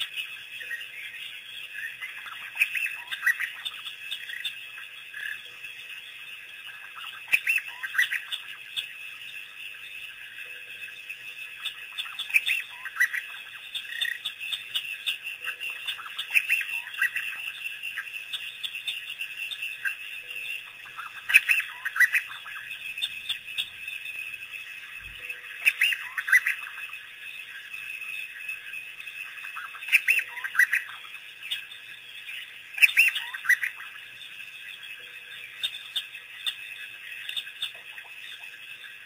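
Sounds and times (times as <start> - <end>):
wild dogs chirping and squeaking: 0.0 - 5.6, 6.2 - 8.9, 11.5 - 27.0, 27.7 - 39.0.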